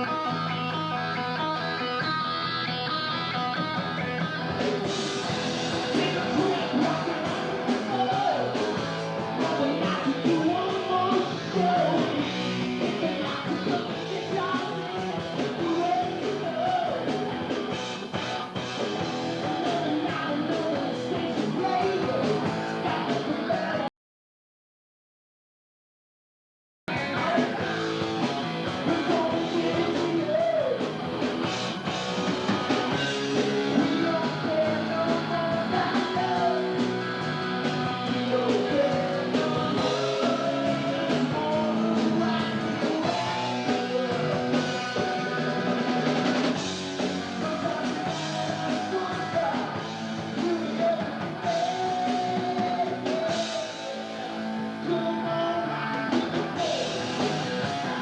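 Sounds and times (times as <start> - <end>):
person singing: 0.0 - 17.5, 18.8 - 23.9, 26.9 - 30.9, 32.8 - 58.0
rock band playing: 0.0 - 23.9, 26.9 - 58.0.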